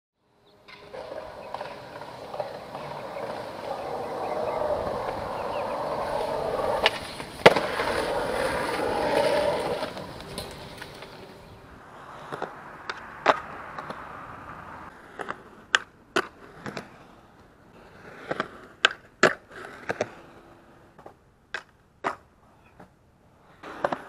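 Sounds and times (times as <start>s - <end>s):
skateboard wheels rolling on concrete: 0.2s - 24.0s
skateboard cracking: 0.6s - 14.2s, 14.9s - 17.2s, 17.8s - 24.0s.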